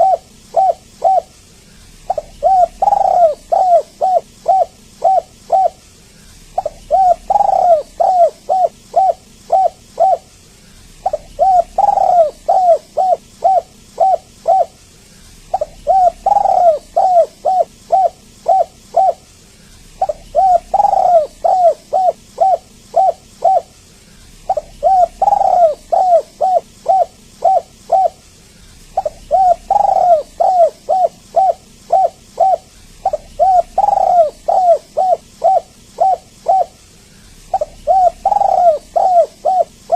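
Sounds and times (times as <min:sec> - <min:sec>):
dove cooing: 0:00.0 - 0:01.4, 0:02.0 - 0:28.2, 0:28.8 - 0:36.8, 0:37.4 - 0:39.9.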